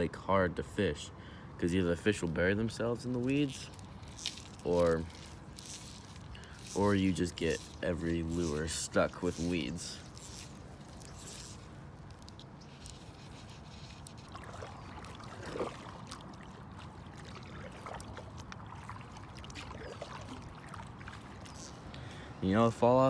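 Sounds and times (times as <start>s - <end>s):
water splashing around paddle: 2.2s - 22.2s.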